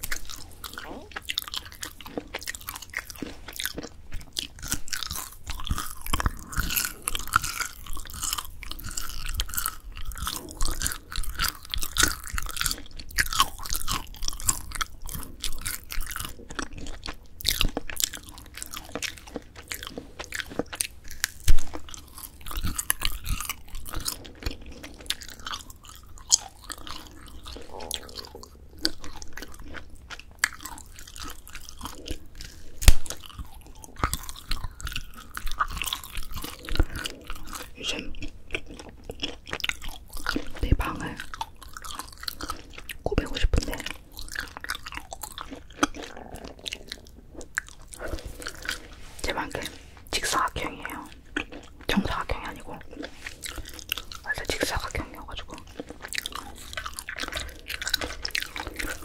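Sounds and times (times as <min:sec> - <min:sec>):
chewing crunchy dried fish: 0:00.0 - 0:59.0.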